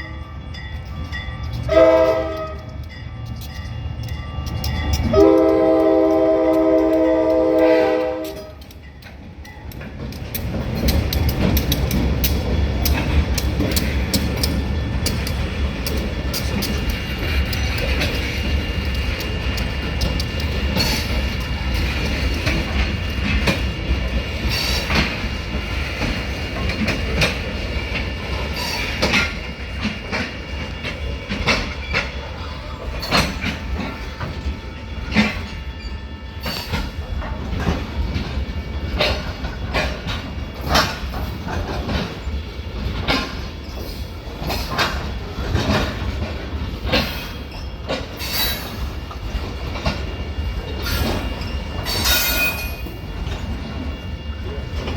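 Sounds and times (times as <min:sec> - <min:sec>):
train low rumble: 0:00.0 - 0:54.9
train wheels clacking: 0:00.0 - 0:54.9.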